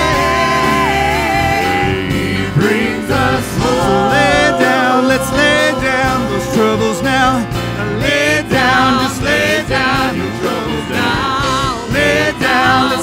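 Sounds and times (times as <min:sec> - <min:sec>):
people singing: 0:00.0 - 0:13.0
worship band playing: 0:00.0 - 0:13.0.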